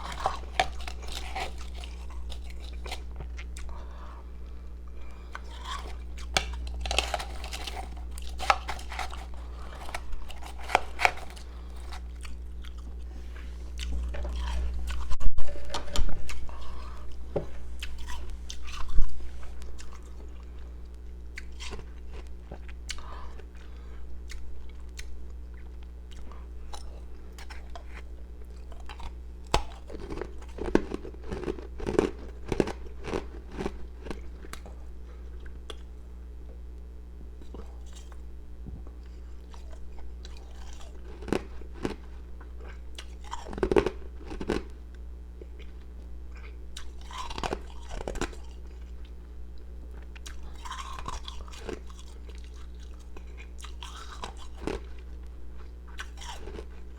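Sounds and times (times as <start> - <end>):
crunching and chewing ice: 0.0 - 36.6, 37.2 - 56.9.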